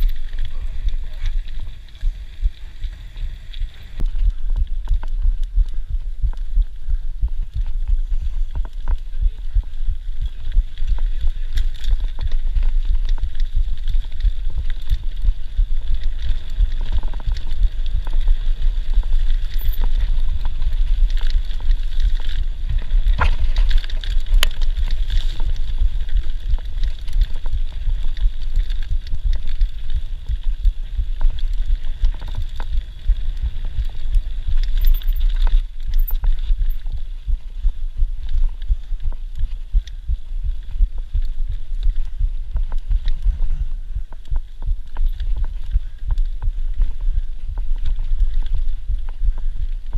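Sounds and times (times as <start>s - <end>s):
bike rattles and clicks: 0.0s - 49.9s
low rumble and wind buffeting: 0.0s - 49.9s.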